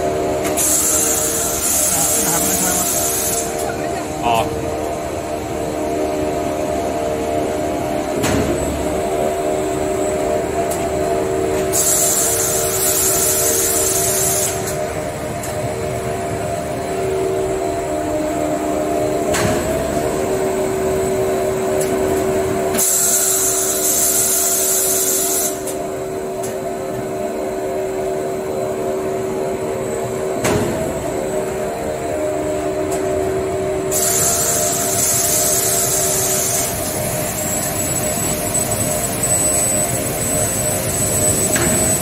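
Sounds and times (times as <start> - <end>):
production line machinery humming: 0.0 - 42.0.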